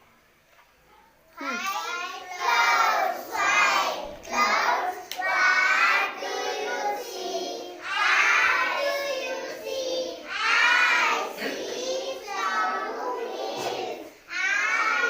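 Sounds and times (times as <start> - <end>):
children singing together: 1.4 - 15.0.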